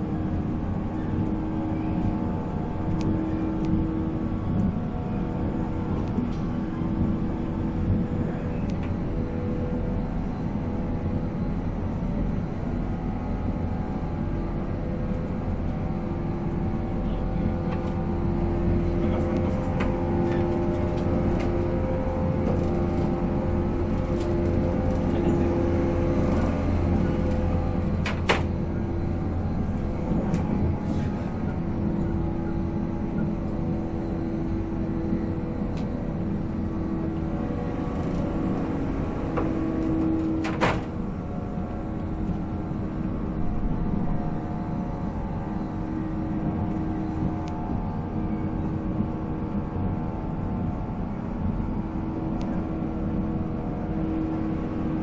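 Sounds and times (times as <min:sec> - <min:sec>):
electric train motor whine: 0:00.0 - 0:55.0
wheels rumbling on rail: 0:00.0 - 0:55.0.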